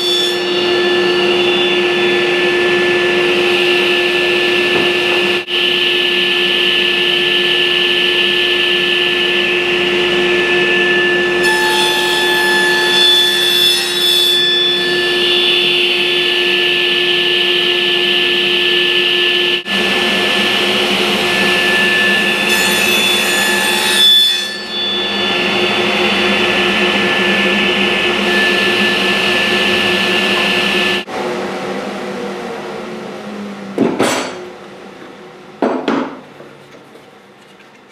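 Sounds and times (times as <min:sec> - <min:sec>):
saw whine cutting wood: 0:00.0 - 0:31.8
table saw running: 0:00.0 - 0:37.3.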